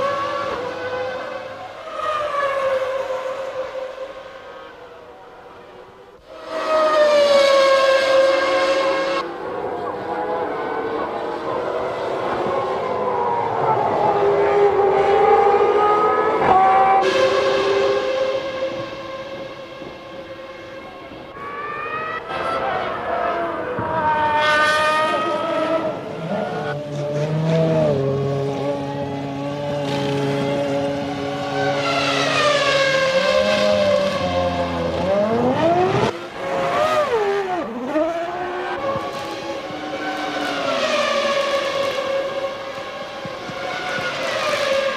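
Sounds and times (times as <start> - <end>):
racing car engines revving: 0.0 - 44.9.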